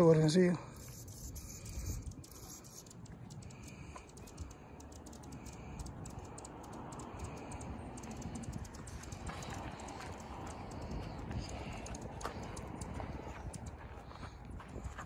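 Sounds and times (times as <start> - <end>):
low steady rumble: 0.0 - 15.0
hummingbird chip calls: 0.6 - 13.7.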